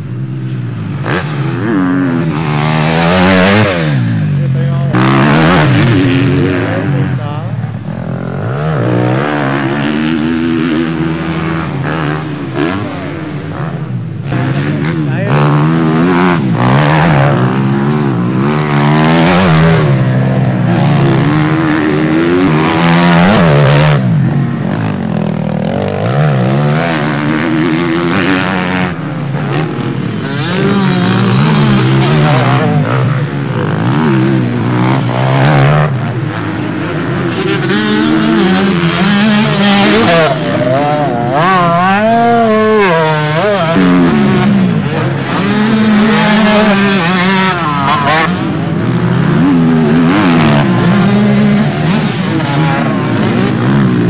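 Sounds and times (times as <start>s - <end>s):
motocross motorcycles revving: 0.0s - 54.0s.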